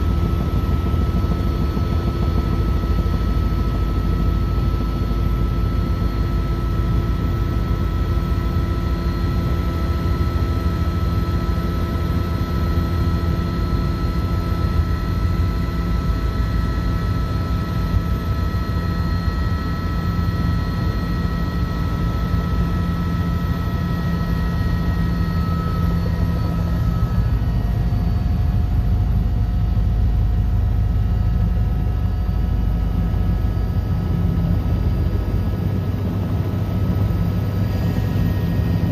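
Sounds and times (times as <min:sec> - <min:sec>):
helicopter rotor noise: 0:00.0 - 0:38.9
turbine engine whine: 0:00.0 - 0:38.9.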